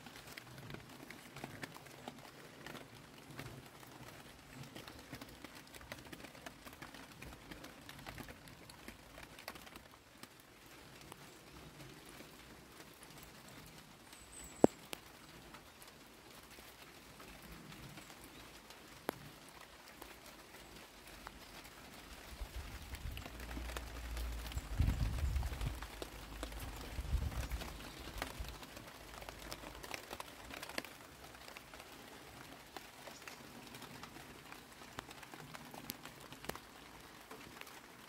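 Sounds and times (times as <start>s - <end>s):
drops ticking on leaves and glass: 0.0s - 38.0s
light rain pattering: 0.0s - 38.0s.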